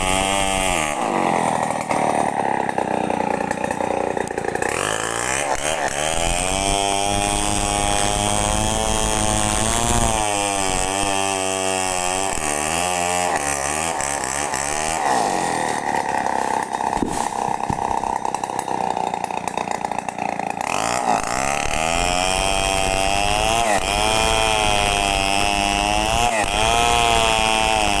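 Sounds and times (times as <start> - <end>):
chainsaw cutting wood: 0.0 - 28.0.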